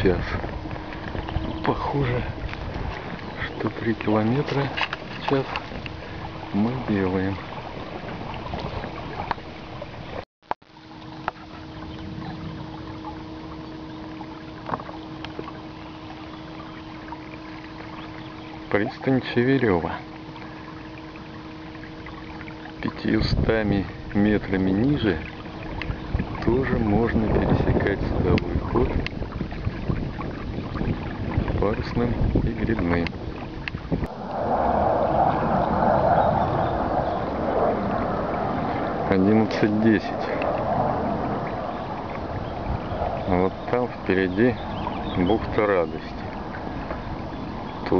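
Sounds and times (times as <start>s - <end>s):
electric outboard motor hum: 0.0s - 47.9s
water noise along hull: 0.0s - 47.9s.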